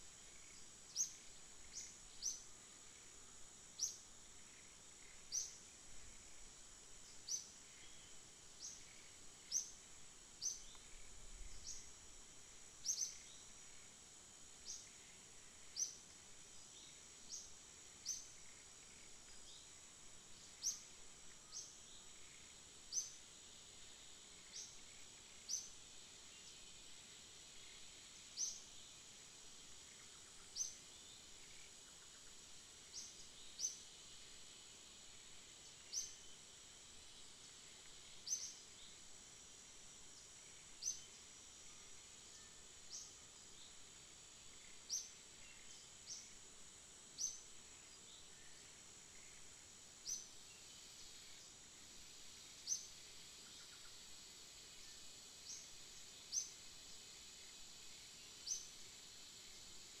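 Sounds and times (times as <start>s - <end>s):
high-pitched insect drone: 0.0s - 60.0s.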